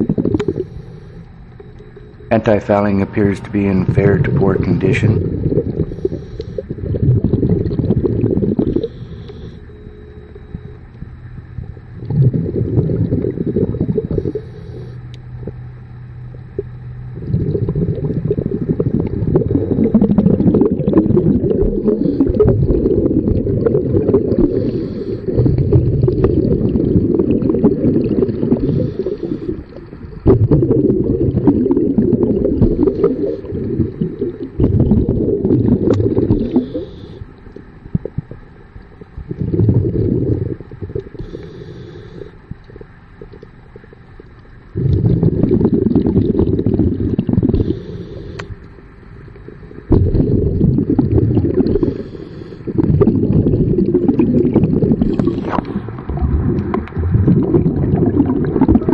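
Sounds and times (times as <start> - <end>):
regulator bubbles gurgling underwater: 0.0 - 58.9.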